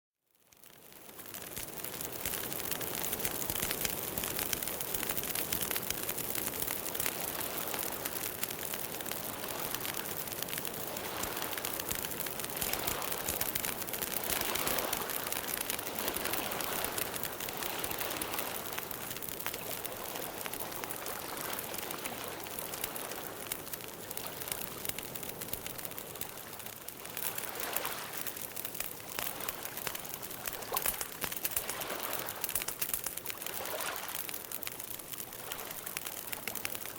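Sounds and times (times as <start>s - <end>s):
campfire crackling: 0.3s - 36.9s.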